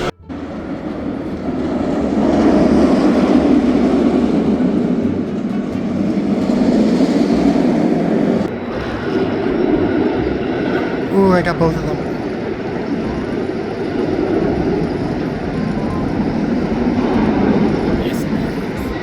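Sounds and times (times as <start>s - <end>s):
roller coaster rumbling on track: 0.0s - 19.0s.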